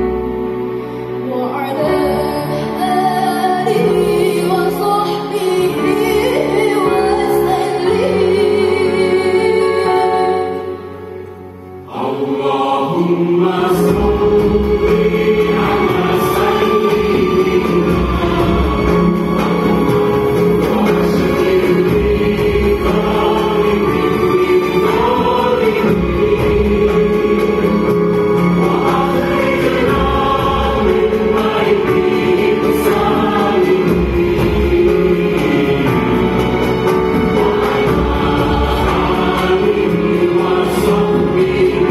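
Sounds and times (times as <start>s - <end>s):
choir singing: 0.0s - 41.9s
orchestra playing held chords: 7.8s - 41.9s.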